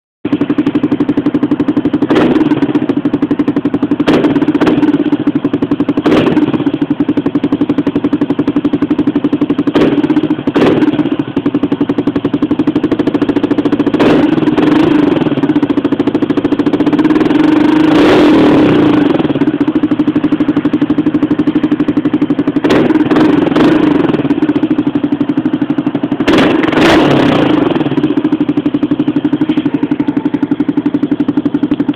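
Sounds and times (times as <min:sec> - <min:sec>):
motorcycle engine idling and revving: 0:00.2 - 0:31.9.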